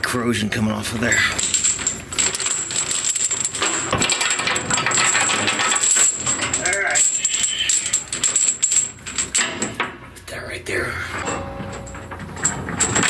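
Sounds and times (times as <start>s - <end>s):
metal chain rattling and clinking: 0.3s - 10.3s, 10.9s - 13.0s.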